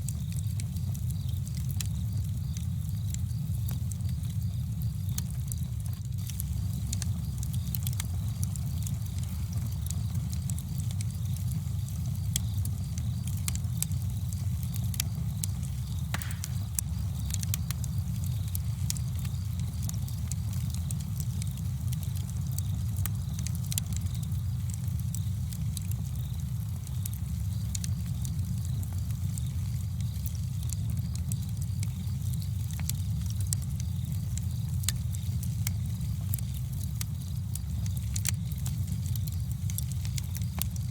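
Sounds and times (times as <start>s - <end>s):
campfire rumble: 0.0s - 40.9s
fire crackling and popping: 0.0s - 40.9s.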